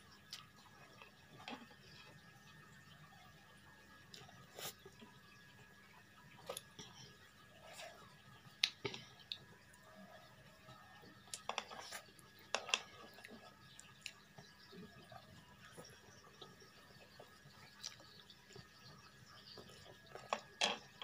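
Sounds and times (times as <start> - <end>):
faint chewing: 0.1 - 21.0.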